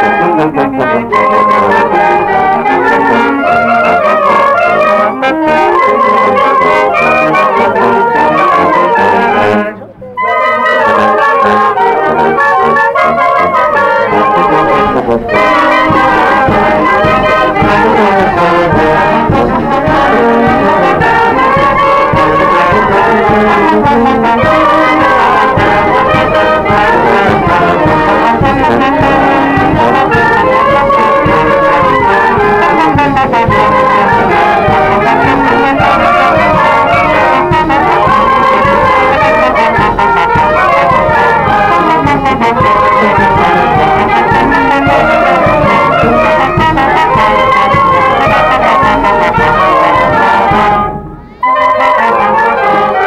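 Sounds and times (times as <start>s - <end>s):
wind band playing: 0.0s - 53.0s.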